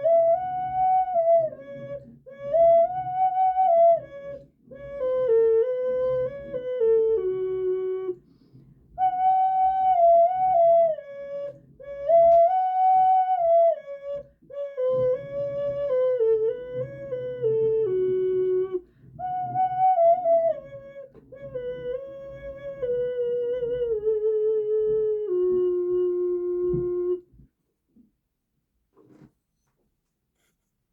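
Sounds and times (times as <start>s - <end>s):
ocarina slow melody: 0.0s - 27.5s.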